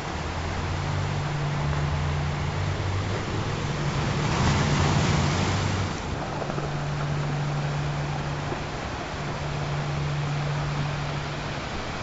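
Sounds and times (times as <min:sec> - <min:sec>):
ocean surf: 0:00.0 - 0:12.0
wave breaking: 0:01.4 - 0:11.0.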